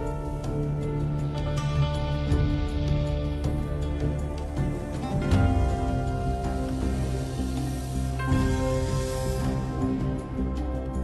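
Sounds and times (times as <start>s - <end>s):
low drone: 0.0s - 11.0s
theme music with sustained notes: 0.0s - 11.0s.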